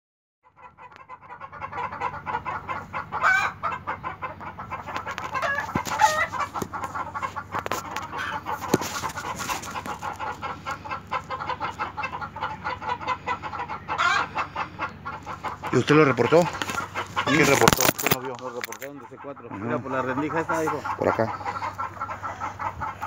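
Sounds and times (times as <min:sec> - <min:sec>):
chicken squawks: 0:00.4 - 0:17.6, 0:19.0 - 0:23.0
chickens clucking: 0:00.4 - 0:23.0.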